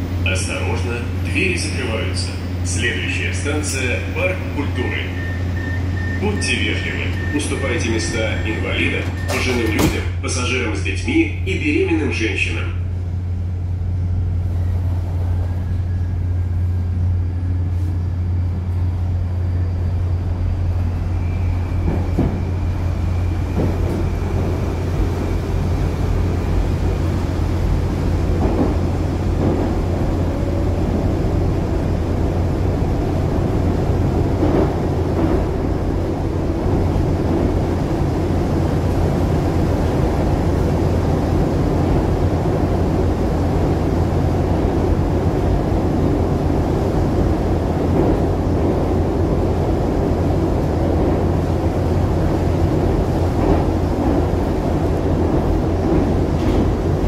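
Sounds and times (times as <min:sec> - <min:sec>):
train interior low hum: 0:00.0 - 0:57.0
wheel and tunnel rumble: 0:00.0 - 0:57.0.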